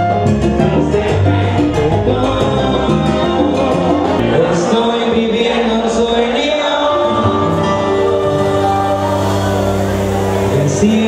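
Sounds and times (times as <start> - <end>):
salsa band playing: 0.0 - 11.0
man singing: 0.6 - 11.0.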